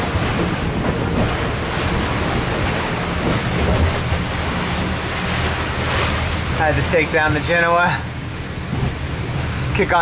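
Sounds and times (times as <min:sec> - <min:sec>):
strong wind buffeting microphone: 0:00.0 - 0:10.0
waves: 0:00.0 - 0:10.0.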